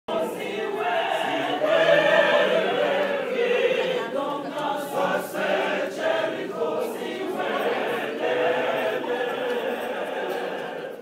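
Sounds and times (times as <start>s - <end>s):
mixed choir singing a cappella: 0.1s - 11.0s.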